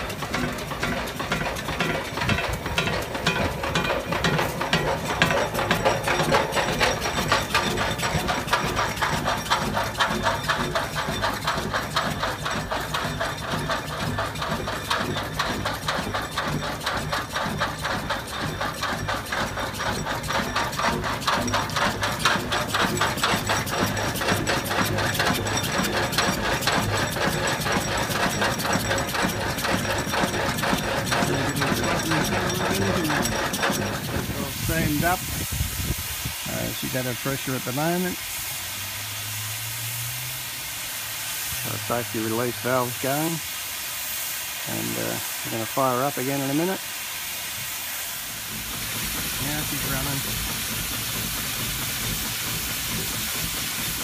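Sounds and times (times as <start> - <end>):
steam engine knocking: 0.0 - 54.0.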